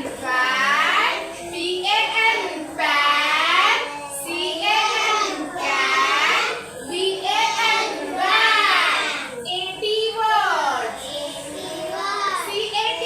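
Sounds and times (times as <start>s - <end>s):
child sing-song chanting: 0.0s - 9.4s, 10.9s - 13.0s.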